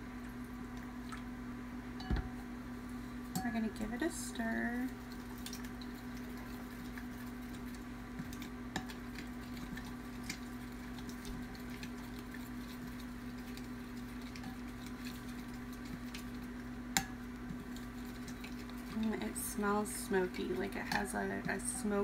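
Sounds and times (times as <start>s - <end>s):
steady low hum: 0.0s - 22.0s
spatula stirring sauce in glass bowl: 3.4s - 21.8s.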